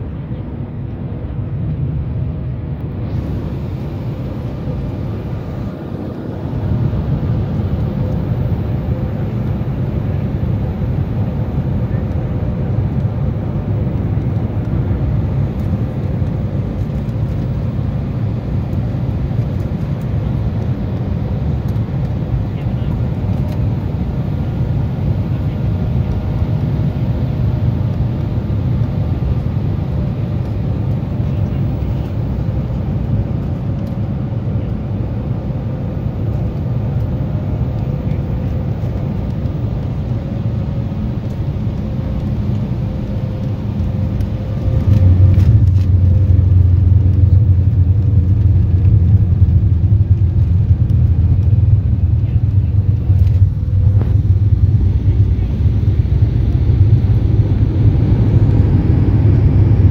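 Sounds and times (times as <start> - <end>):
deep rumble of runway rolling: 0.0 - 59.9
jet engine and airflow noise: 0.0 - 59.9
plane touching down: 0.0 - 59.9.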